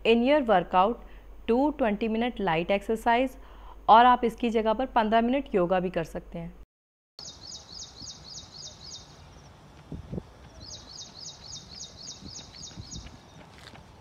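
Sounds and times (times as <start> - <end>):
quiet outdoor ambience: 0.0 - 6.6, 7.2 - 14.0.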